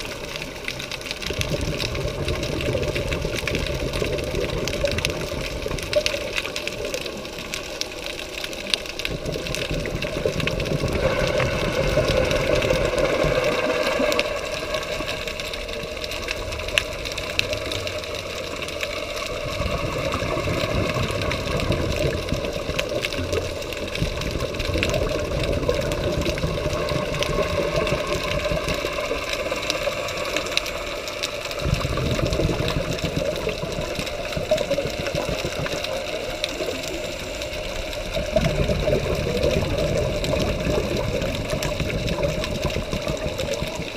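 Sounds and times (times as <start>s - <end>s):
rumble of exhaled bubbles: 0.0s - 43.9s.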